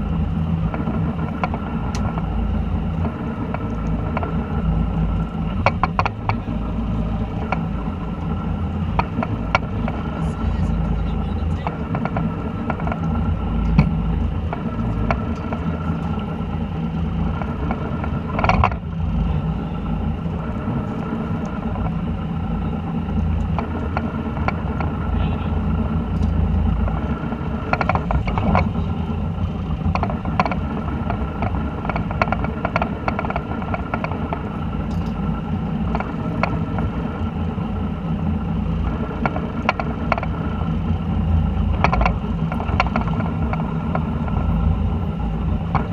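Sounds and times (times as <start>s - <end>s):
boat engine droning: 0.0s - 45.9s
gear clicking and knocking: 0.6s - 2.3s, 2.9s - 4.6s, 5.2s - 19.4s, 23.1s - 35.2s, 35.8s - 37.3s, 38.8s - 40.6s, 41.3s - 45.9s.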